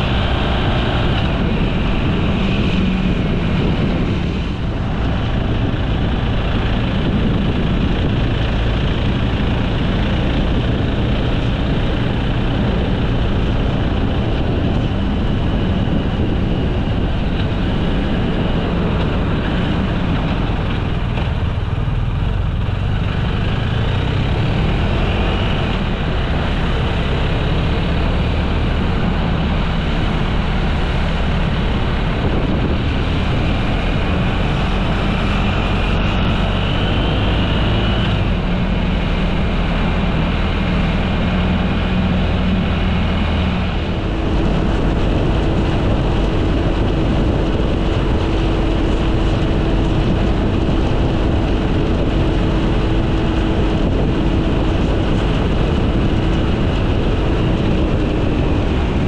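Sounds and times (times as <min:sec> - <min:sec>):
vehicle engine and road drone: 0:00.0 - 0:59.0.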